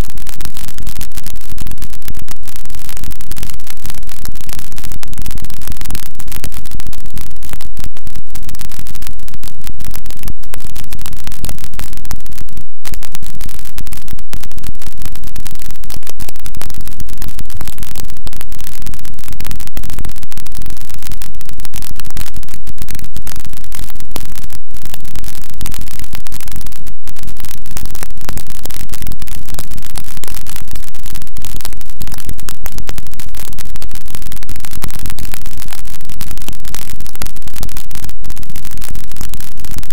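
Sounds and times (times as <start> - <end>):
harsh distorted static noise music: 0.0 - 39.9.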